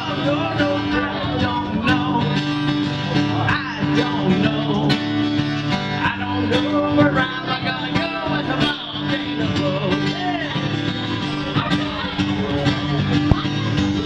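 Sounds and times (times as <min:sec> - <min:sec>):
man singing into microphone: 0:00.0 - 0:13.1
acoustic guitar strumming: 0:00.0 - 0:14.0.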